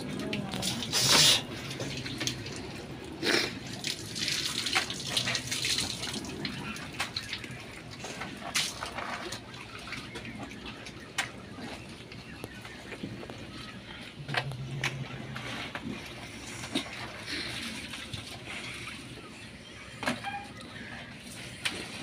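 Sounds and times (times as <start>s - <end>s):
water splashing in a tub: 0.0s - 22.0s.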